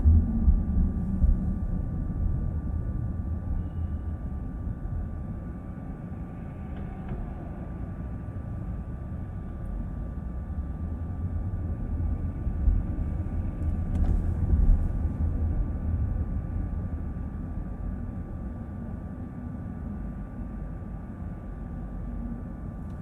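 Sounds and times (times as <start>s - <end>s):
faint steady whine: 0.0s - 23.0s
road and tyre rumble: 0.0s - 23.0s.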